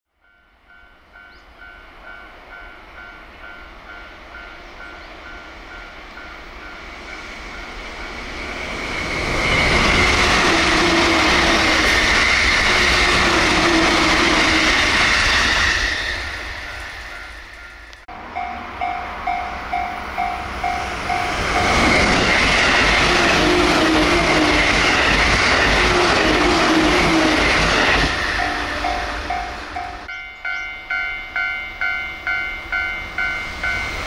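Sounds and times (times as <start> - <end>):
level-crossing warning bell: 0.2 - 15.4, 16.2 - 34.0
electric train rushing past: 0.2 - 34.0.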